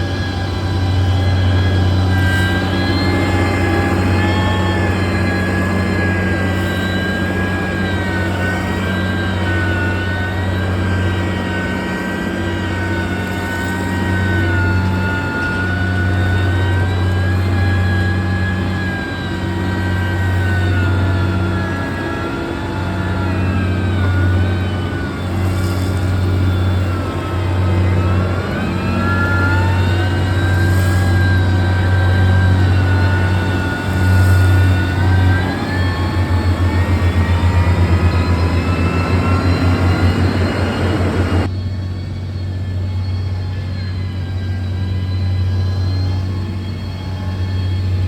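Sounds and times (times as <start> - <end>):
diesel engine under load: 0.0 - 48.0.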